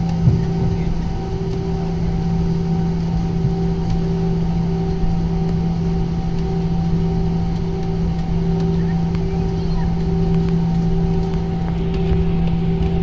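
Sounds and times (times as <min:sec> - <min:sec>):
aircraft engine drone: 0:00.0 - 0:13.0
constant low hum: 0:00.0 - 0:13.0.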